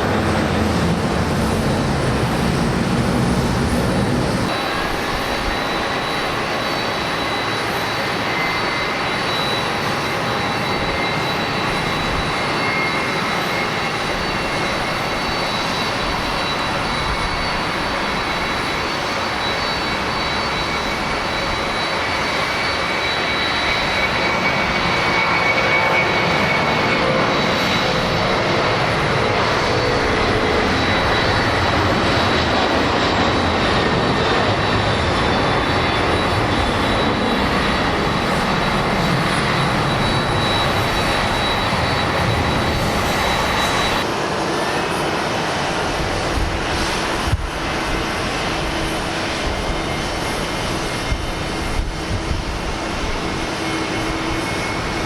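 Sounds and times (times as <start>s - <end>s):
jet engines at takeoff power: 0.0s - 55.0s.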